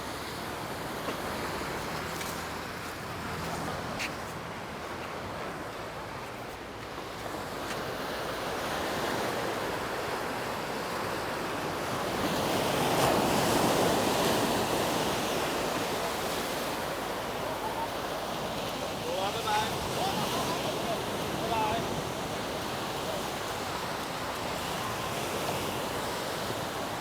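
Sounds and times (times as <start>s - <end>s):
sea waves washing onto beach: 0.0s - 27.0s.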